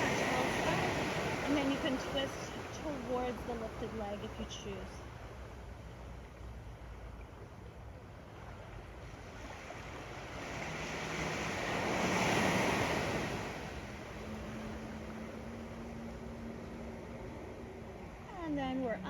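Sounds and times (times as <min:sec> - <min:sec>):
ocean waves on sandy beach: 0:00.0 - 0:05.9, 0:08.0 - 0:19.0.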